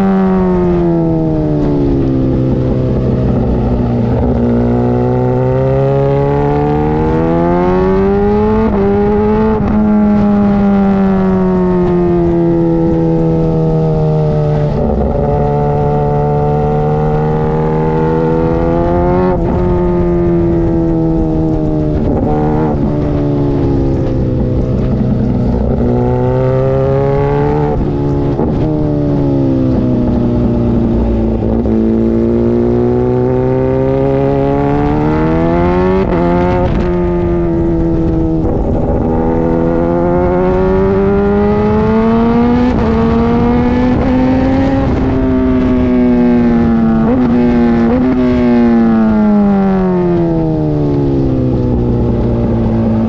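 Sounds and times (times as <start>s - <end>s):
motorcycle engine accelerating: 0.0s - 53.0s
wind rush: 0.0s - 53.0s.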